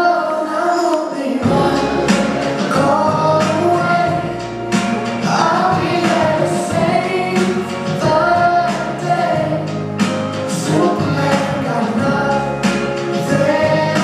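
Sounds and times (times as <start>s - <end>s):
song with singing: 0.0s - 14.0s.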